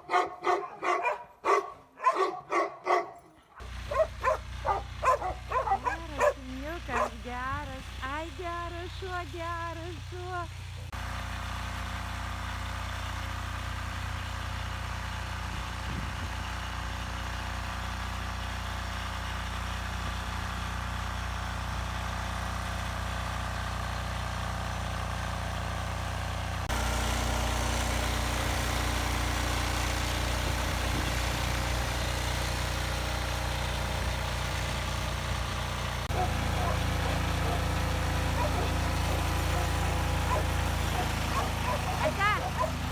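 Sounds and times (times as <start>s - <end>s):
vehicle engine idling: 3.6s - 42.9s.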